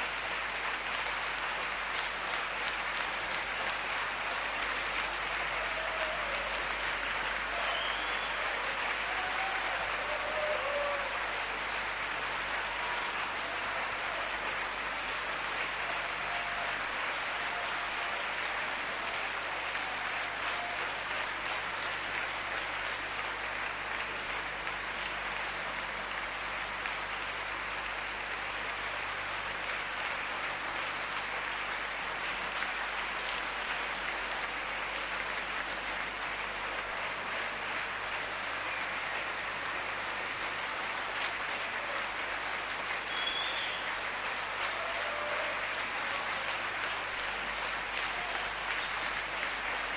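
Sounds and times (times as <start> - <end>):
audience applauding: 0.0 - 49.9.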